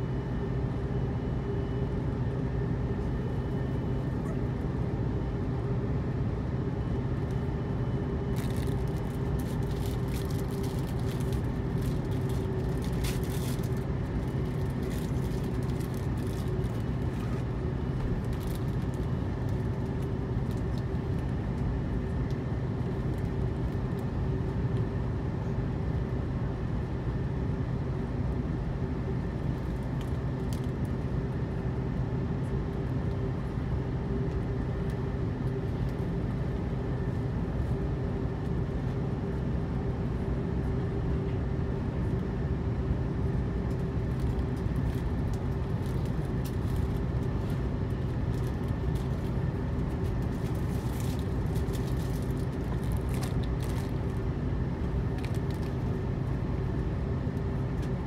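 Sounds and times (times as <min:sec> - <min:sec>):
airliner cabin rumble and hum: 0:00.0 - 0:58.0.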